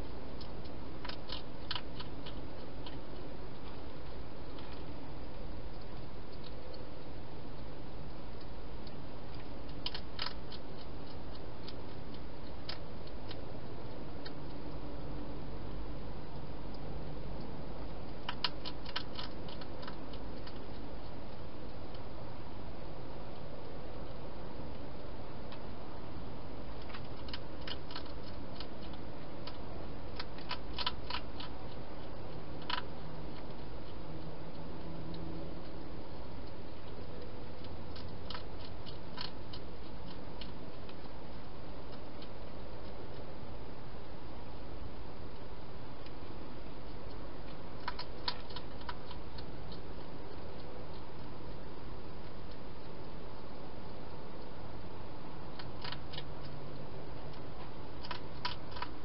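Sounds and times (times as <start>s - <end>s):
hedgehog crunching food: 0.0s - 59.0s
steady low hiss: 0.0s - 59.0s.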